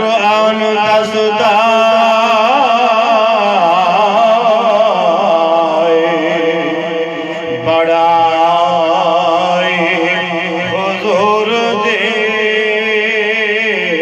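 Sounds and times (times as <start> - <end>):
man singing held wavering note: 0.0 - 14.0.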